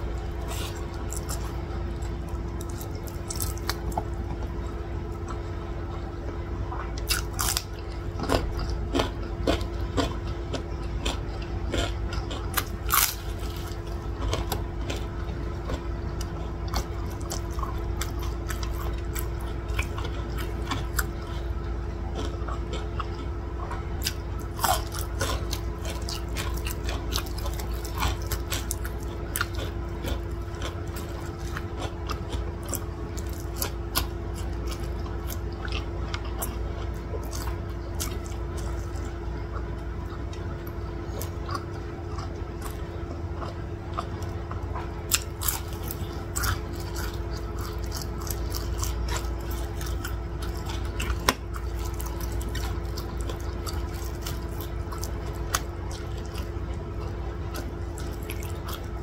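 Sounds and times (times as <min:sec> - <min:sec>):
person chewing with wet clicks: 0:00.0 - 0:59.0
steady hum: 0:00.0 - 0:59.0.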